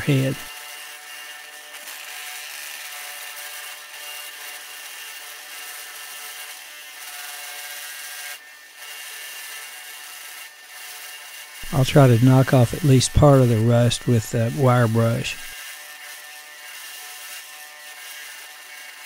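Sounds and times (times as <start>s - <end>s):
wire wheel grinding rust off metal: 0.0s - 8.0s, 8.6s - 19.0s.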